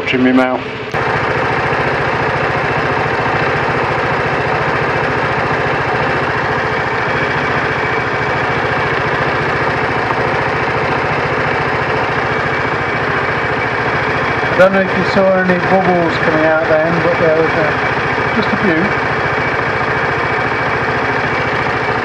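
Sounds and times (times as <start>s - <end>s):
scooter engine idling: 0.0s - 22.0s.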